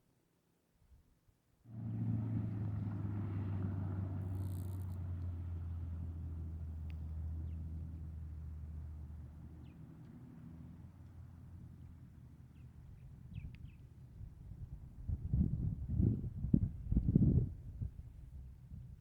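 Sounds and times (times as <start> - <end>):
low engine hum: 1.7 - 19.0.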